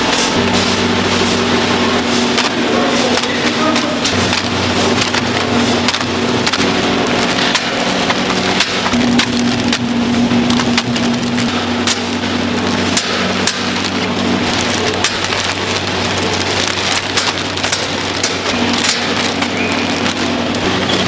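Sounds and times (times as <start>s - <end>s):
machinery clattering and ticking: 0.0s - 21.0s
machinery humming: 0.0s - 21.0s.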